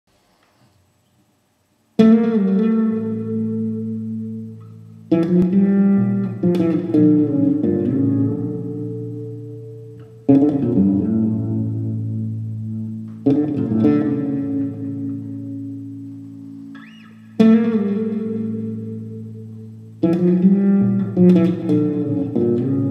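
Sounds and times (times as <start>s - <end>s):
fretless electric bass chords: 2.0s - 22.9s.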